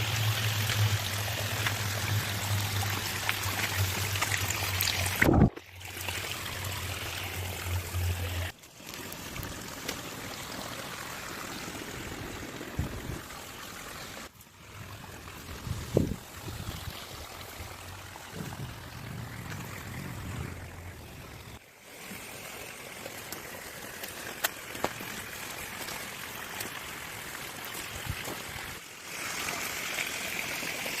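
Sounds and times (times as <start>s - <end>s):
flowing falling water: 0.0s - 31.0s.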